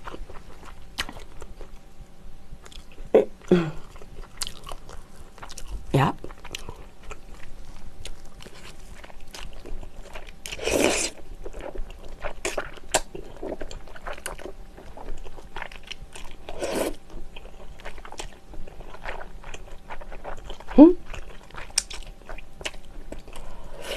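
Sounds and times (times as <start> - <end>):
wet chewing: 3.9 - 23.6.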